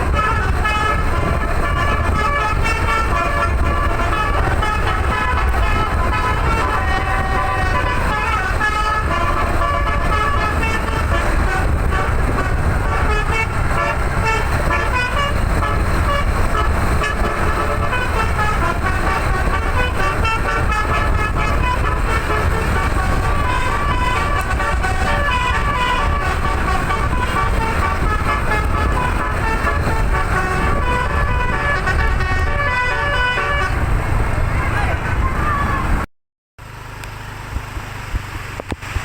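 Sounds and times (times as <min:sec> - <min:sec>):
musical air horn melody: 0:00.0 - 0:34.0
steady low rumble: 0:00.0 - 0:36.1.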